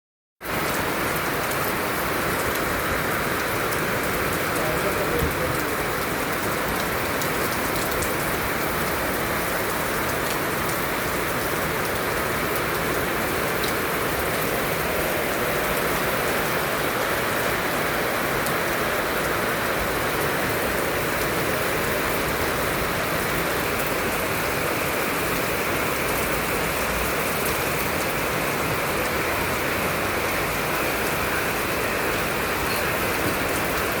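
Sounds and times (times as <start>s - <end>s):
heavy rain pouring: 0.4s - 34.0s.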